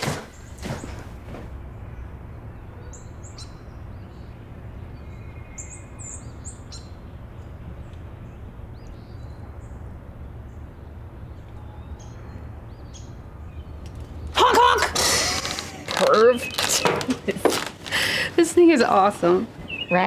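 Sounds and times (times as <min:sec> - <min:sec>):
low background hum: 0:00.0 - 0:20.0
small birds chirping: 0:02.0 - 0:20.0.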